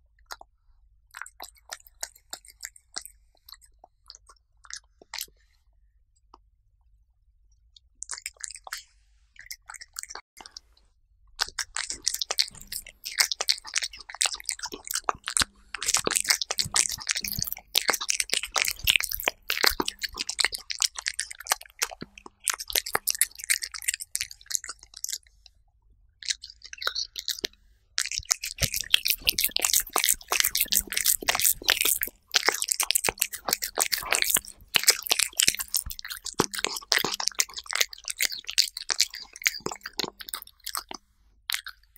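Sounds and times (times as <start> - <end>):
cat chewing wetly: 1.1 - 5.5, 8.0 - 8.8, 9.4 - 10.8, 11.4 - 25.5, 26.2 - 41.9.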